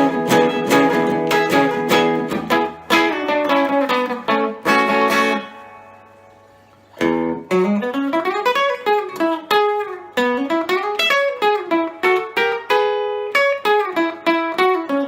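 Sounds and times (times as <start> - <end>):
clean electric guitar melody: 0.0 - 15.0.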